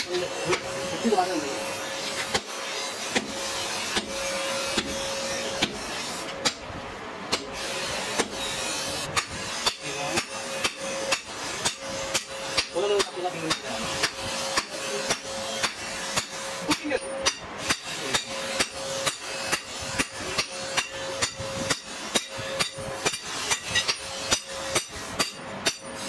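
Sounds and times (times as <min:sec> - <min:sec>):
hammer striking steel on anvil: 0:02.1 - 0:26.0.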